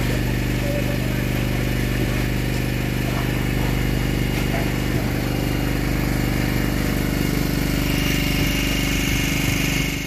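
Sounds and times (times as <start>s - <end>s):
boat engine running steadily: 0.0s - 10.0s.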